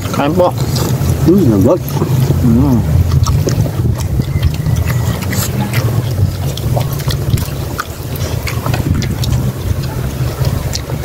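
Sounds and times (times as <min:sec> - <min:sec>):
chewing and lip smacks: 0:00.0 - 0:11.0
low rumble: 0:00.0 - 0:11.0.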